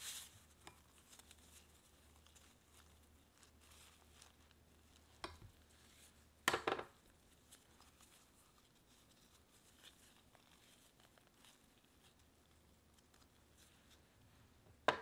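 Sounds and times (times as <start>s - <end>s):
hands rustling in dough: 0.0s - 14.8s.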